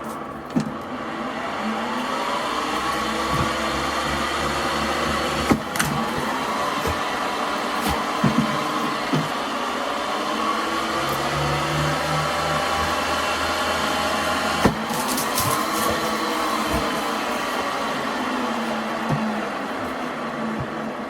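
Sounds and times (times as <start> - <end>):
ball launcher motor whine: 0.0 - 21.0.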